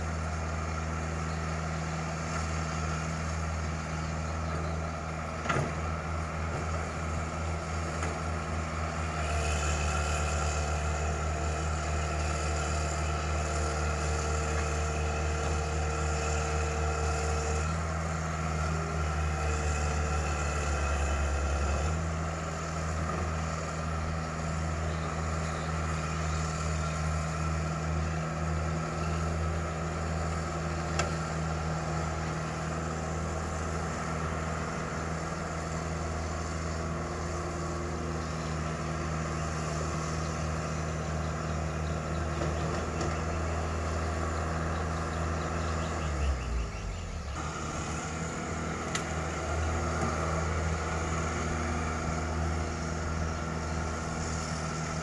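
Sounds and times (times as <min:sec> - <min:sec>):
excavator diesel engine running: 0:00.0 - 0:55.0
high engine whine: 0:00.0 - 0:55.0.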